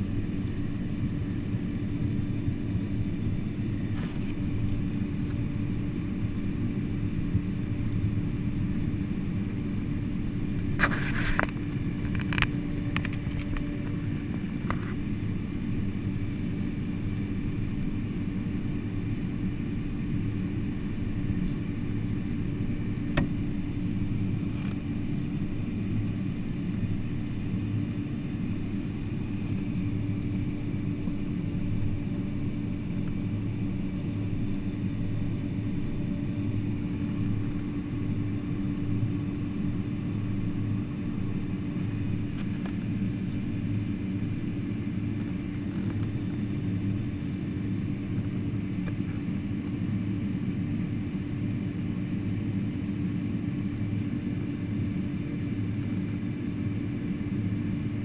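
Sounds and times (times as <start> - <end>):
airplane cabin rumble and hum: 0.0 - 58.0.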